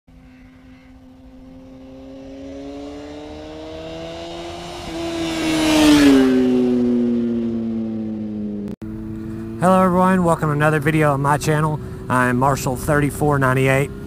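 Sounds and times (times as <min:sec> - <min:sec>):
motorcycle passing by: 0:00.1 - 0:14.0.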